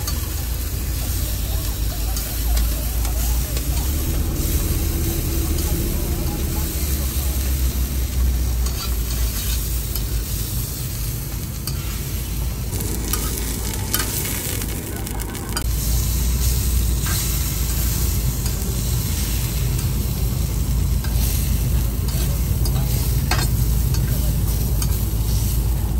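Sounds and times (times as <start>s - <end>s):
meat sizzling on a griddle: 0.0s - 25.9s
low rumble: 3.3s - 25.9s.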